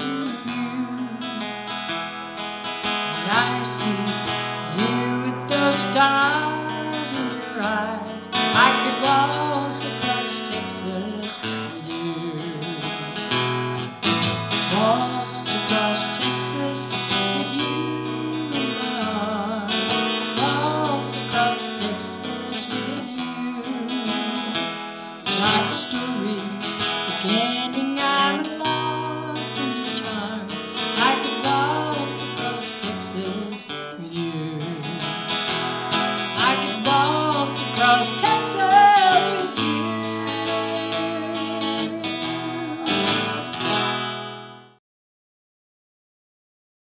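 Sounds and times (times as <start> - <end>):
woman singing: 0.0 - 1.9, 2.8 - 43.7
strummed acoustic guitar: 0.0 - 44.8.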